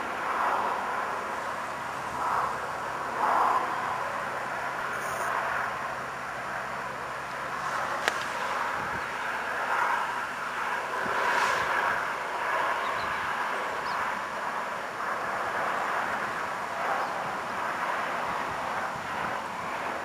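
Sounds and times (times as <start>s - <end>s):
train engine drone: 0.0s - 20.0s.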